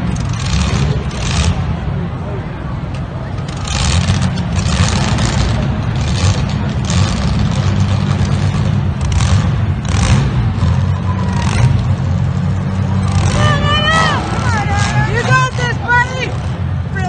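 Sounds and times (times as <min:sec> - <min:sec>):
car engines rumbling: 0:00.0 - 0:17.0
cars crashing and scraping: 0:00.0 - 0:17.0.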